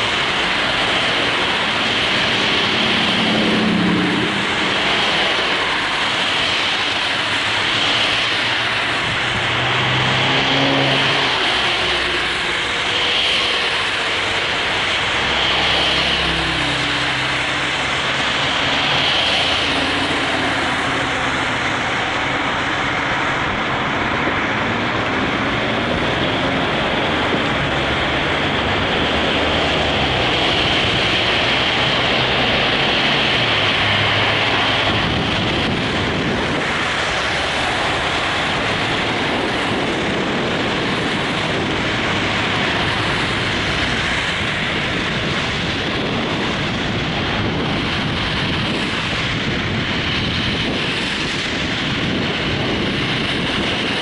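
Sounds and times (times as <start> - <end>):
car road and wind rush: 0.0 - 54.0
low engine hum: 0.0 - 54.0.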